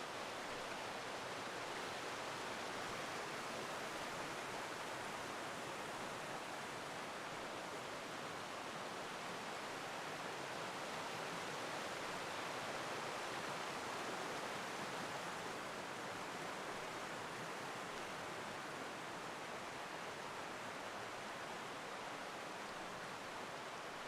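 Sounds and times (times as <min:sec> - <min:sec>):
stream rushing over waterfalls: 0:00.0 - 0:24.0.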